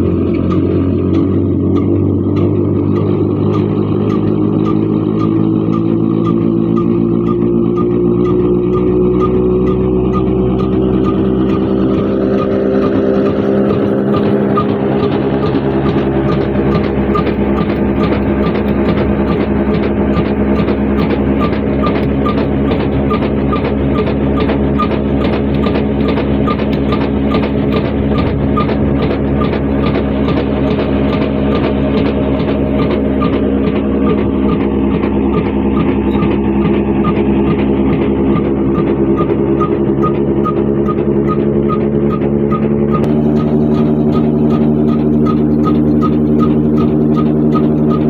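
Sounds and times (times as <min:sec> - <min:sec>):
diesel engine knocking: 0:00.0 - 0:48.0.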